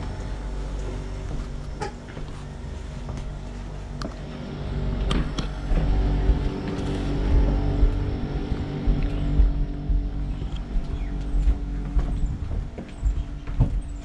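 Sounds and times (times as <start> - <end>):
low rumble: 0.0 - 14.0
motor humming: 0.0 - 14.0.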